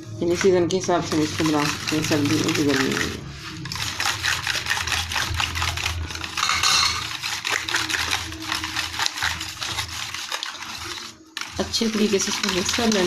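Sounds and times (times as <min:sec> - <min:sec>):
whisk clicking and scraping metal pot: 0:00.0 - 0:13.0.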